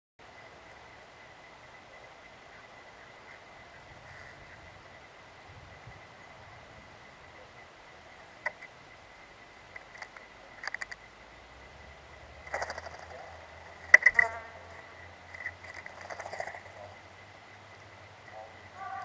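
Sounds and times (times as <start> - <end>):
faint steady hiss: 0.2 - 19.0.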